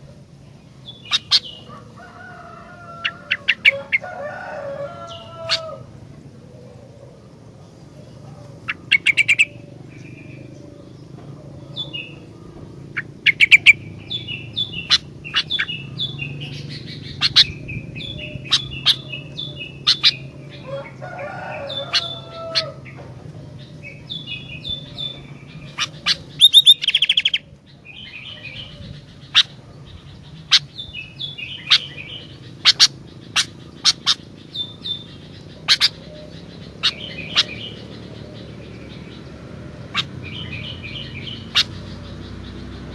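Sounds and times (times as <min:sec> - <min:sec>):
steady low hum: 0:00.0 - 0:42.9
bulbul chirping and whistling: 0:00.8 - 0:01.8, 0:08.6 - 0:42.9.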